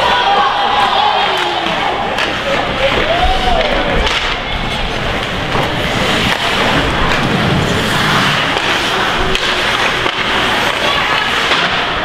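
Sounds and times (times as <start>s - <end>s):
hockey stick and puck clicks: 0.0s - 12.0s
skates scraping ice: 0.0s - 12.0s
spectators' noise: 0.0s - 12.0s.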